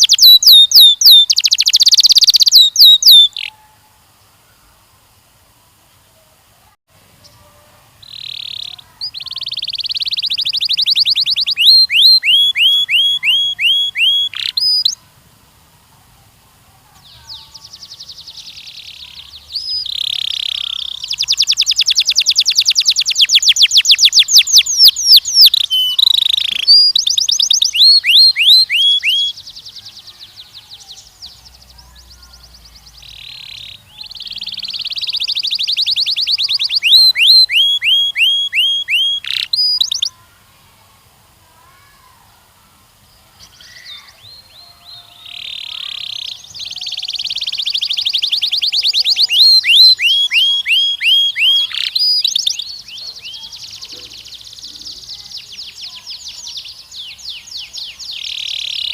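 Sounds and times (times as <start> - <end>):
canary singing trills: 0.0 - 3.8, 7.2 - 15.0, 17.0 - 40.2, 43.1 - 58.9.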